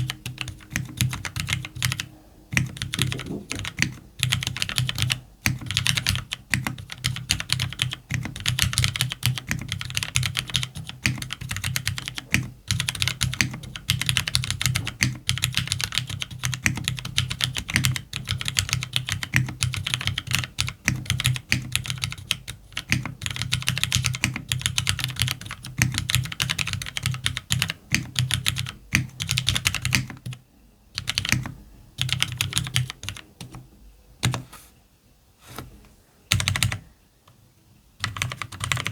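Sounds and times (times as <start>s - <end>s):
mechanical keyboard typing: 0.0s - 30.4s, 31.0s - 33.6s, 34.2s - 34.5s, 36.3s - 36.8s, 38.0s - 38.9s.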